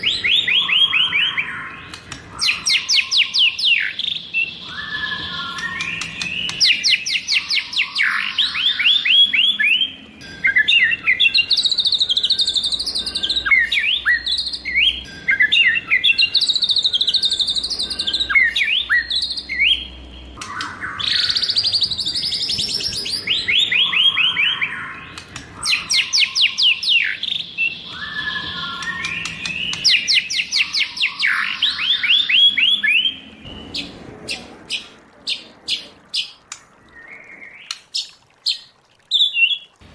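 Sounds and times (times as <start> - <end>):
bird singing whistles: 0.0 - 33.9.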